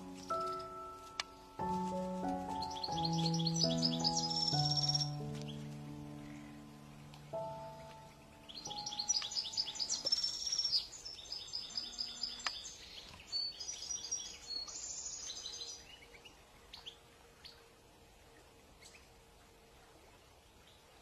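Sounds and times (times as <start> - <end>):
goldfinch twittering song: 0.0 - 17.7
bird call notes: 0.0 - 20.8.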